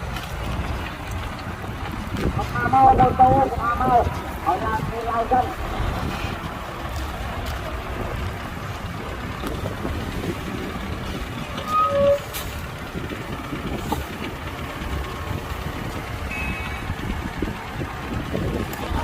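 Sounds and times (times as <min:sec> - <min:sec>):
heavy machinery diesel rumble: 0:00.0 - 0:19.0.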